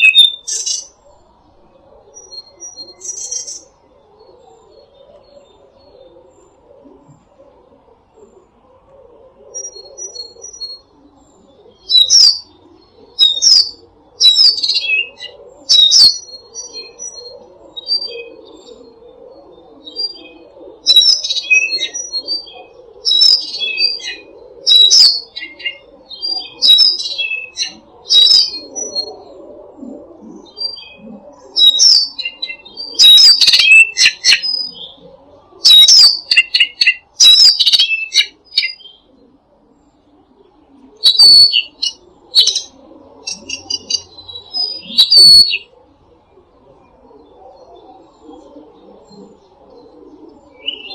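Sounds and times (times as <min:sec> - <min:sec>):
songbirds singing: 0:00.0 - 0:50.9.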